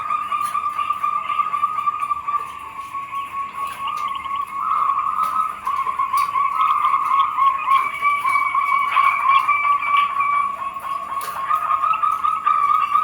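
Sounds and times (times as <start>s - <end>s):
doves cooing: 0.0s - 13.0s.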